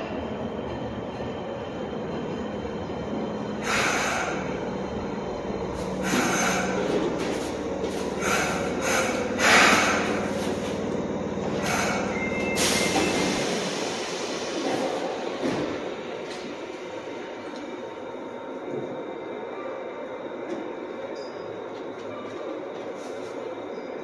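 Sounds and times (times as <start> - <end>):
train equipment low hum: 0.0 - 24.0.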